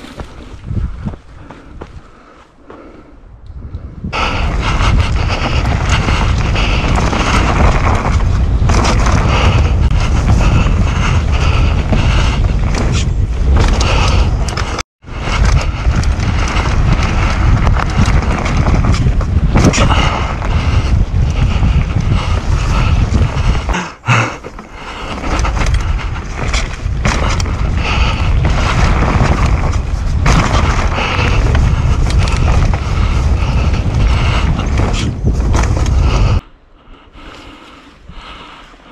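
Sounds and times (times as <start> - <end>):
wind buffeting microphone: 0.0 - 38.9
mountain bike rattling over dirt trail: 4.2 - 36.4.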